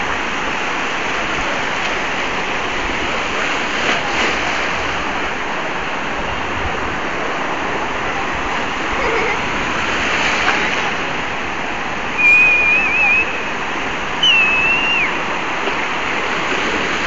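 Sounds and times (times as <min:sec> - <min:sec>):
sea surf breaking: 0:00.0 - 0:17.0.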